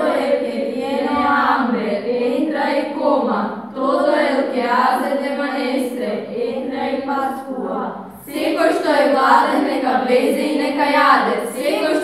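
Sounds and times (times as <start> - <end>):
girls singing unaccompanied: 0.0 - 12.0.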